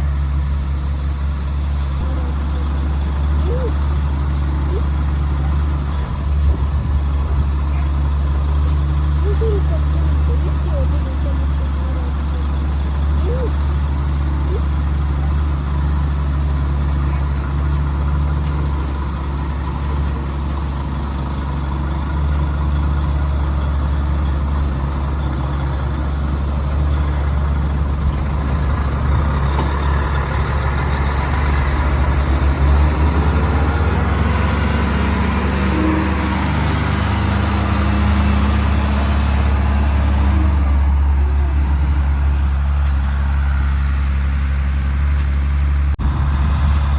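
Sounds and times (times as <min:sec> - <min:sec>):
truck diesel engine droning: 0:00.0 - 0:46.9.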